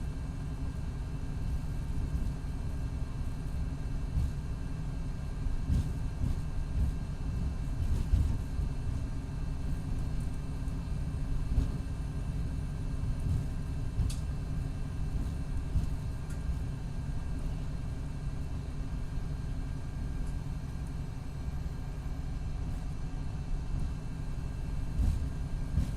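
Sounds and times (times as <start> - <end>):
diesel coach engine rumble: 0.0 - 25.9.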